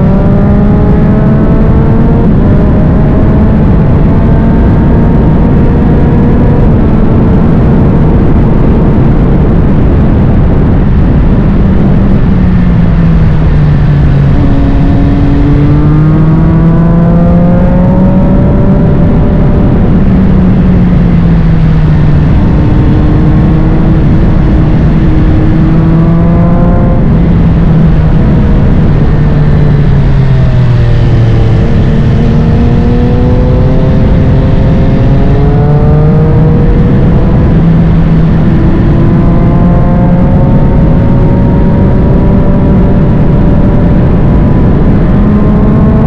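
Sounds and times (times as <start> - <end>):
motorcycle engine accelerating: 0.0 - 46.0
wind rush: 0.0 - 46.0.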